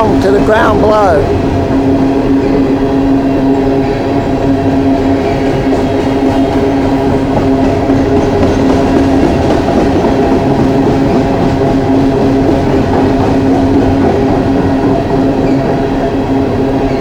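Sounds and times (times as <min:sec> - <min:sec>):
steady hum: 0:00.0 - 0:17.0
steel wheels rumbling on rail: 0:00.0 - 0:17.0.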